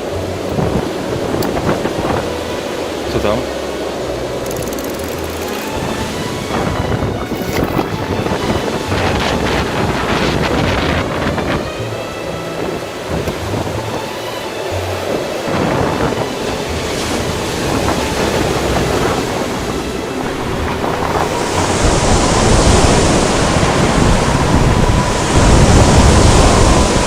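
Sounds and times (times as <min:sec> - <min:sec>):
water rushing and splashing: 0:00.0 - 0:27.0
wind buffeting microphone: 0:00.0 - 0:27.0.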